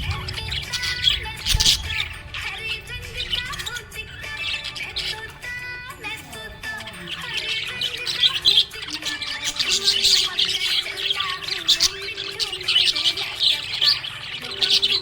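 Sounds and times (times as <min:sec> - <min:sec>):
budgerigar chirping: 0:00.0 - 0:15.0.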